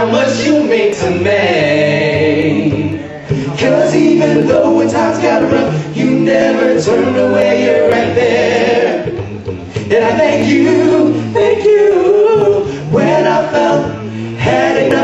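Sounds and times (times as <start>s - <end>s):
male vocal group singing a cappella: 0.0s - 15.0s.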